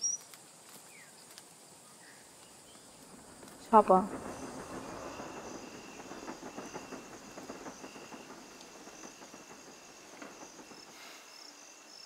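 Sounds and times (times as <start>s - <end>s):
crickets chirping: 0.0s - 12.0s
faint crackle of clicks: 0.2s - 1.6s, 2.4s - 10.8s.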